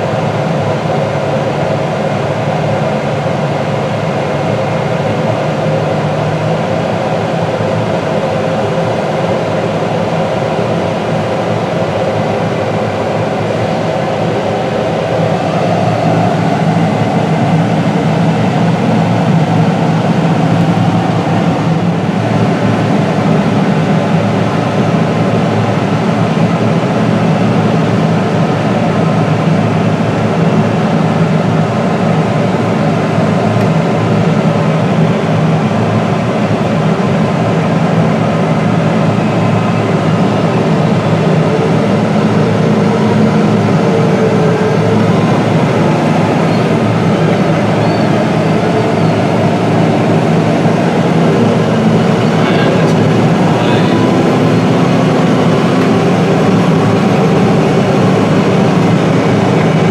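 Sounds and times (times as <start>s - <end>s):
farm machine diesel engine droning: 0.0s - 59.9s.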